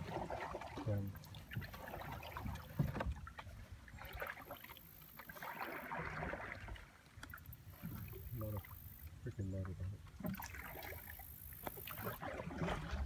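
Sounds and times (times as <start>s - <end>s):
paddle splashing in water: 0.0s - 13.0s.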